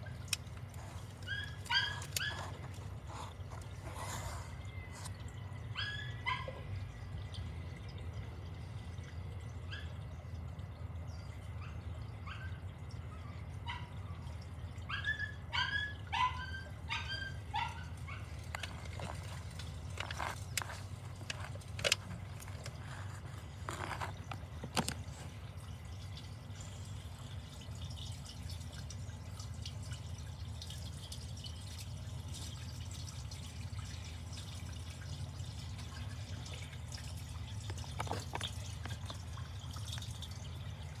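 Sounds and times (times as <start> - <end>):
water trickling in drain pipe: 0.0 - 41.0.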